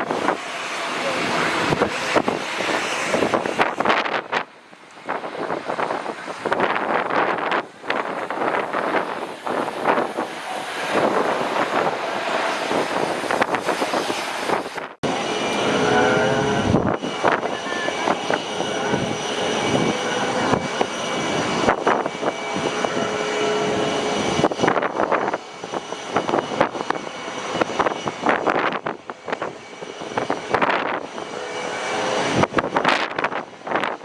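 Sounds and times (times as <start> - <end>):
jet airliner engines whining: 0.0 - 34.0
wind buffeting microphone: 0.0 - 34.0.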